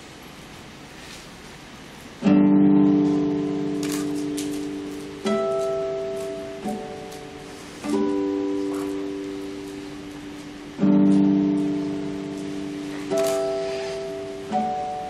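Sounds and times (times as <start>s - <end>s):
classical guitar plucked notes: 2.2s - 15.0s.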